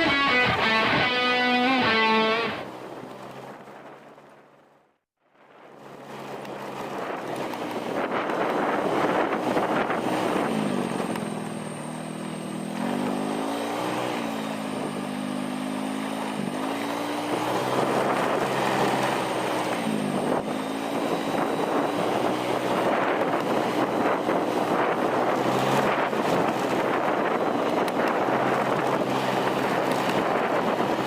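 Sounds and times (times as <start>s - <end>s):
motorcycle engine revving: 0.0s - 4.1s, 5.9s - 31.0s
wind rushing over microphone: 0.0s - 4.8s, 5.4s - 31.0s.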